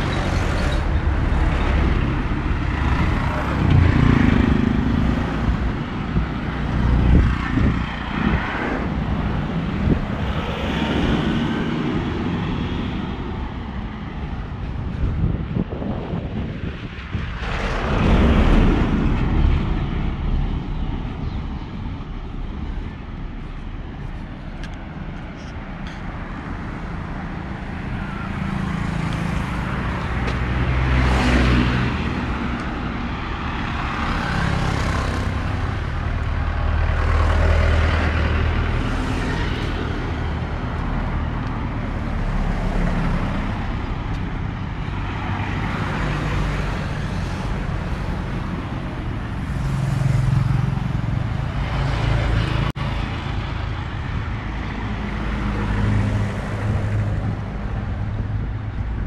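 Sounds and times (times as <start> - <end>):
cars and truck passing: 0.0 - 59.0.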